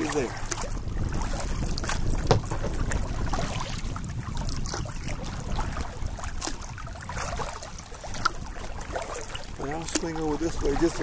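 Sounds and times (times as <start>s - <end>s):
kayak paddle strokes: 0.0s - 11.0s
water dripping off paddle: 0.0s - 11.0s
wind rumbling on microphone: 0.0s - 11.0s.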